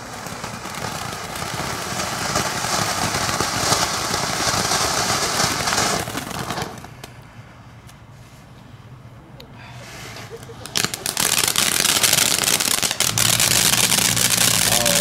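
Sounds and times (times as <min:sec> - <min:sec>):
firework fountain hissing: 0:00.0 - 0:07.2, 0:09.8 - 0:15.0.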